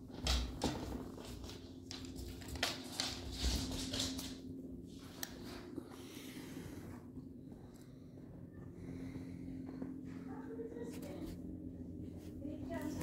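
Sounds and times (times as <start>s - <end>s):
rustling and shuffling: 0.0s - 13.0s
steady low hum: 0.0s - 13.0s.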